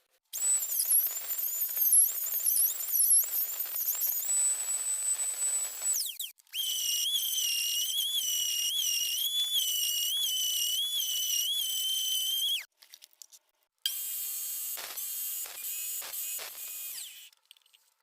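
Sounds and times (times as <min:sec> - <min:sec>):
power tool motor whine: 0:00.4 - 0:12.6, 0:13.9 - 0:17.3.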